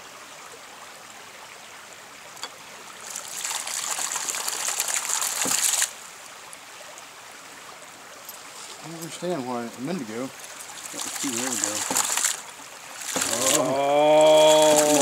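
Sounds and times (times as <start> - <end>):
trickle of running water: 0.0 - 15.0.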